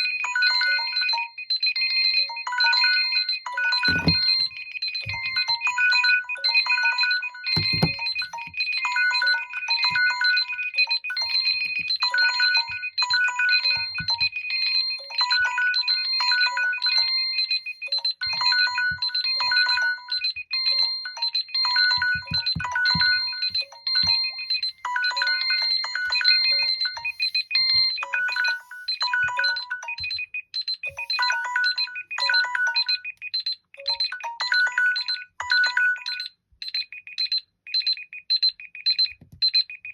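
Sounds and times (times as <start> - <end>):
electronic ringtone melody: 0.0 - 36.4.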